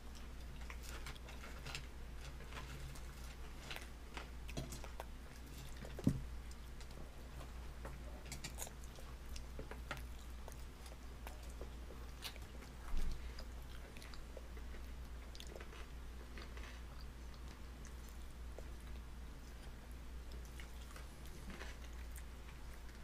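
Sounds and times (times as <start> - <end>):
baby chewing crunchy food: 0.0 - 23.0.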